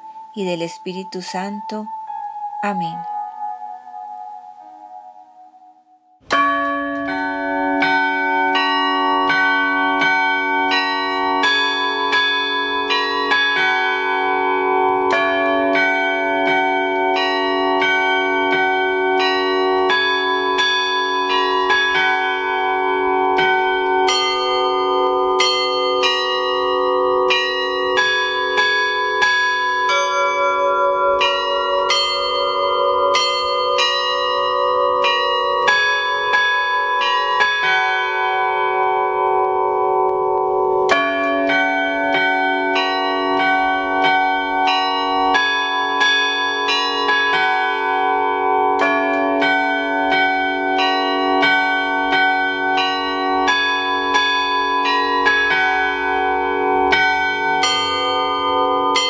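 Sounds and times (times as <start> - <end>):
bells ringing: 0.0 - 5.7, 6.3 - 59.0.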